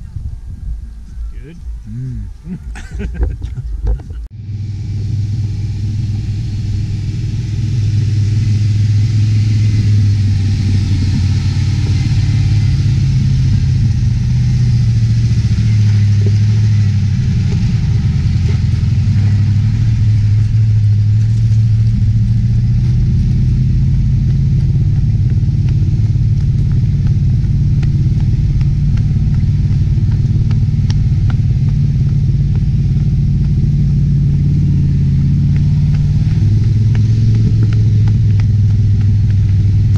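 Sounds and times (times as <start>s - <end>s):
vehicle engine droning under load: 0.0s - 39.9s.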